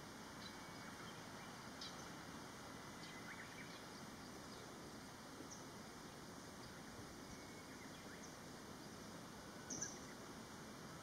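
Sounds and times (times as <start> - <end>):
steady low hiss: 0.0 - 11.0
faint bird chirps: 0.3 - 2.3, 2.9 - 11.0.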